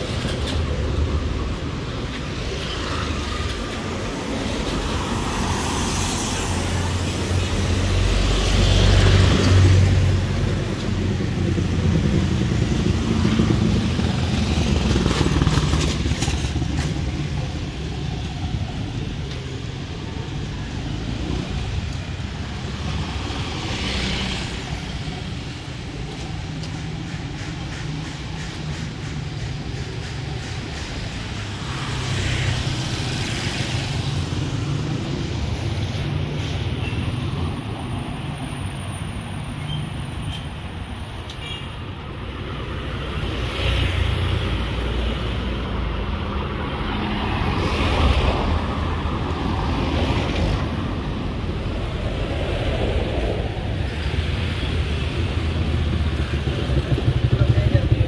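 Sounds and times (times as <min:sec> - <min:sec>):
street traffic passing: 0:00.0 - 0:58.0.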